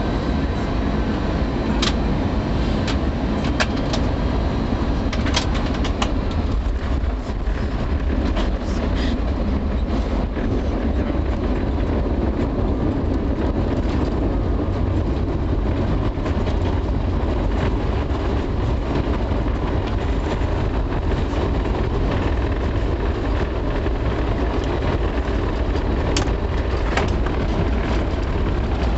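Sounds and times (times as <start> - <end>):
low rumble inside airliner cabin: 0.0 - 28.9.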